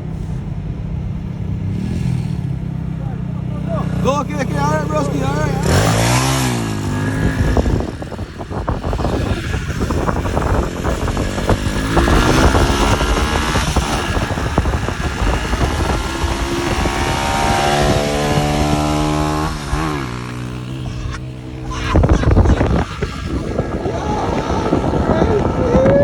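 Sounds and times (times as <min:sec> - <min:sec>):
small motorcycle engine revving: 0:01.1 - 0:26.0.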